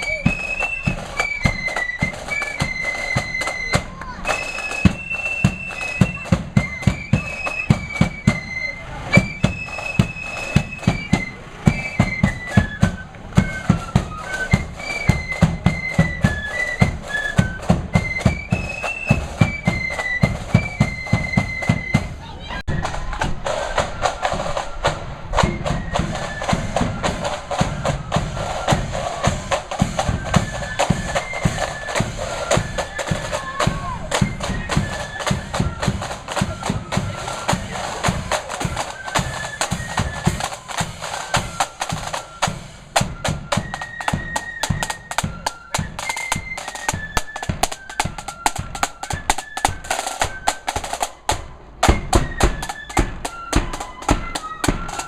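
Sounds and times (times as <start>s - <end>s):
flutes playing melody: 0.0s - 55.0s
snare drumming: 0.0s - 55.0s.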